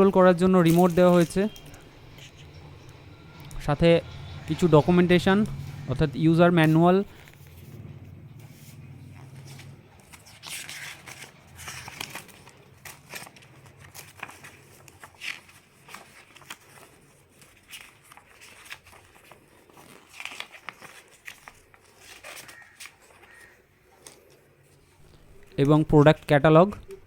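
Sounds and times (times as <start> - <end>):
paper rustling and crinkling: 0.0 - 4.7, 8.4 - 25.8.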